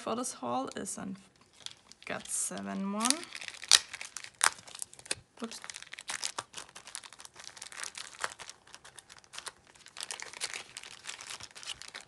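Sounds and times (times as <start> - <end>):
plastic bag crinkling: 1.5 - 12.0.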